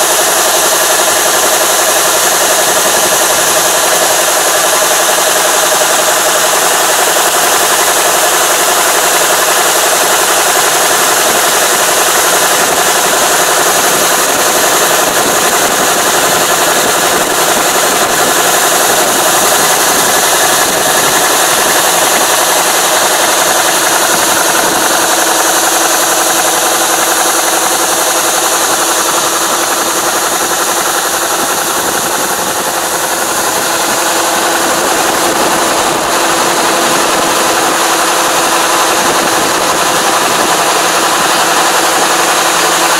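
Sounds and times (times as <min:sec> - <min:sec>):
combine harvester drone: 0:00.0 - 0:42.9.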